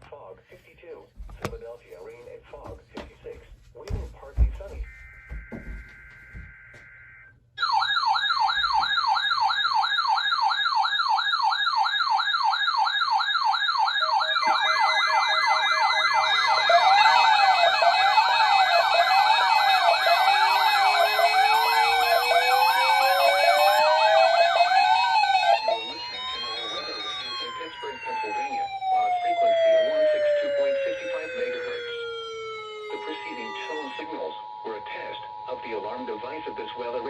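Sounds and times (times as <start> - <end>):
siren yelp: 4.4 - 37.0
rising siren wail: 4.8 - 35.8
warbling electronic siren: 4.8 - 37.0.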